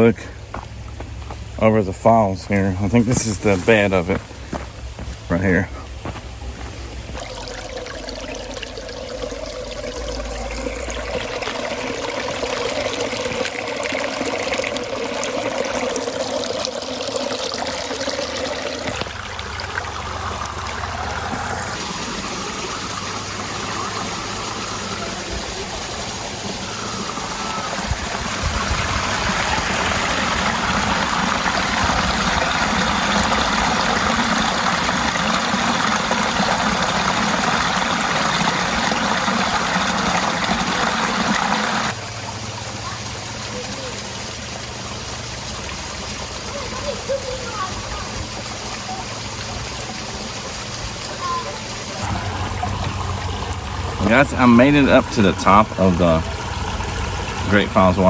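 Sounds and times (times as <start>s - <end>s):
water rushing over rocks: 0.0s - 6.0s, 7.0s - 58.0s.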